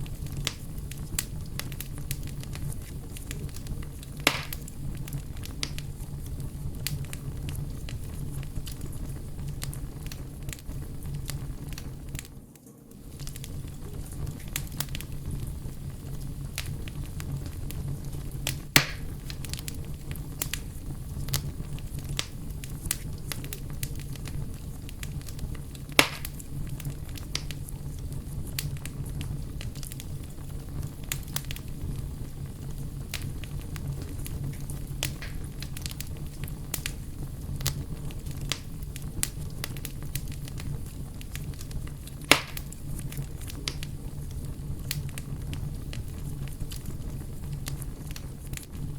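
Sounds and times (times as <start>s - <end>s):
campfire crackling and popping: 0.0s - 48.9s
loud fire snaps: 0.0s - 48.9s
low rumble of flame: 0.0s - 48.9s.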